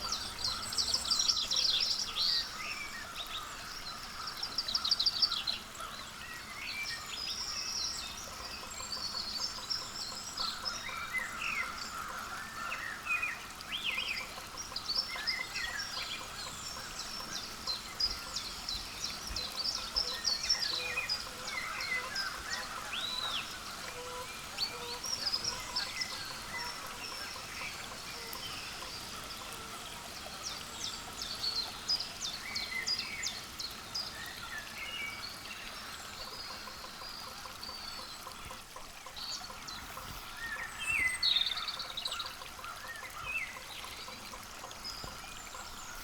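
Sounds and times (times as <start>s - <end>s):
outdoor background noise: 0.0s - 46.0s
wild birds chirping and trilling: 0.0s - 46.0s.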